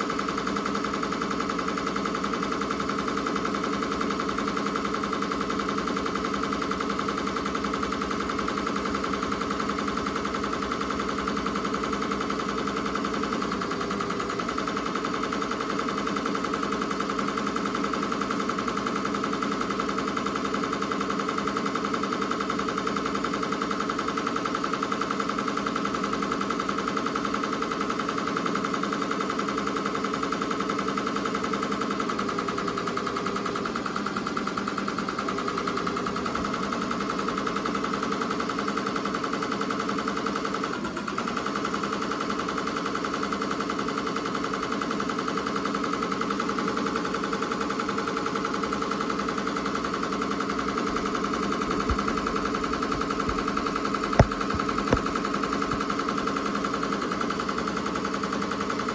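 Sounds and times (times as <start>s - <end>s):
embroidery machine stitching: 0.0s - 58.9s.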